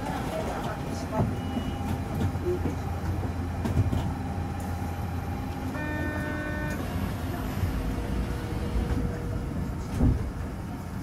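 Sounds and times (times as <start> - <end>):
train running hum: 0.0 - 11.0.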